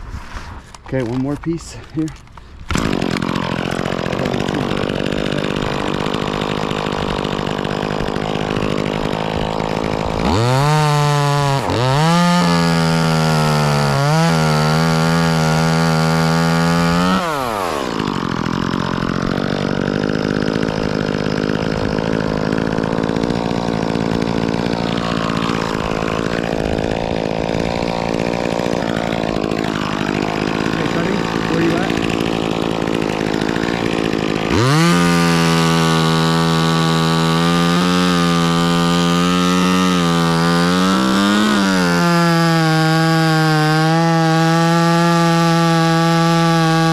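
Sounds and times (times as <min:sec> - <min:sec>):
chainsaw idling and revving: 0:00.7 - 0:46.9.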